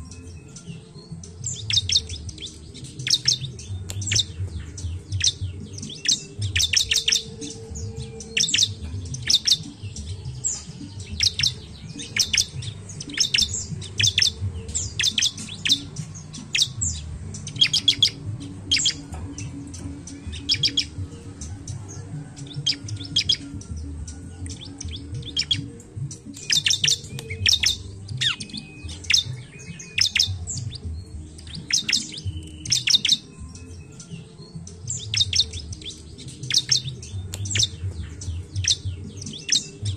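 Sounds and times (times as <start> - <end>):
bird high sharp chirps: 0.0 - 39.9.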